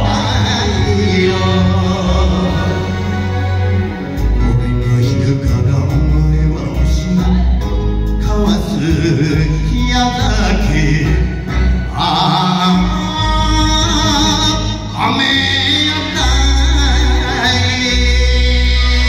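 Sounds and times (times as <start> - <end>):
backing music with bass line: 0.0 - 19.0
men singing a duet: 0.0 - 19.0.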